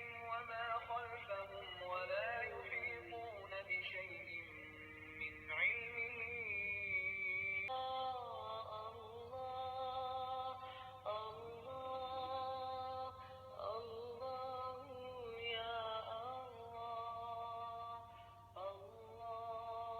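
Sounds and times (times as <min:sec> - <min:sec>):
person chanting recitation: 0:00.0 - 0:19.9.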